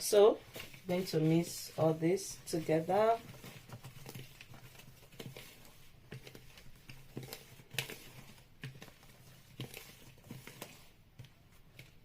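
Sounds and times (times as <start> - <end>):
utensil tapping bowl stirring flour: 0.0 - 12.0.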